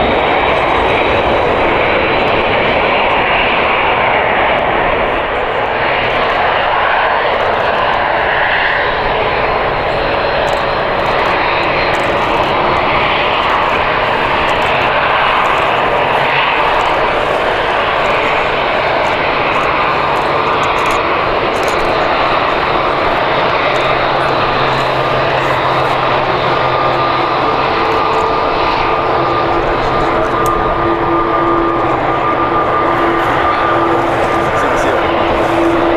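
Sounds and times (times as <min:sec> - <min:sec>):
faint steady tones: 0:00.0 - 0:35.9
jet engines roaring: 0:00.0 - 0:35.9.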